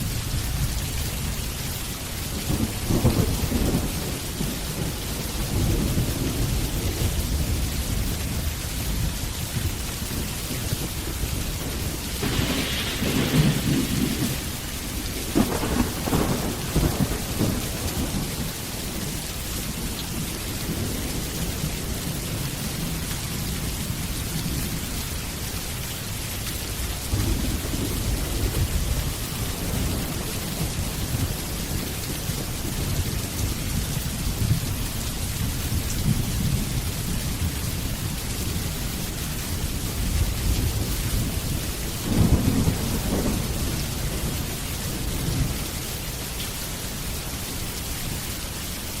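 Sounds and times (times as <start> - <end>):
steady rain falling: 0.0 - 49.0
rolling thunder: 2.4 - 24.7, 26.7 - 38.2, 39.6 - 45.9.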